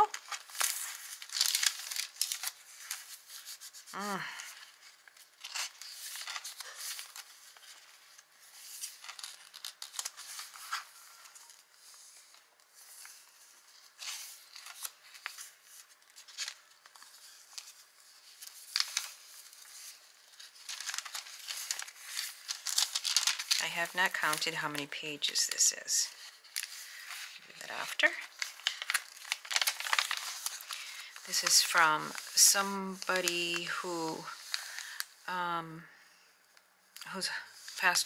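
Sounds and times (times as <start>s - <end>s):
paper pages rustling and crinkling: 0.0s - 35.2s.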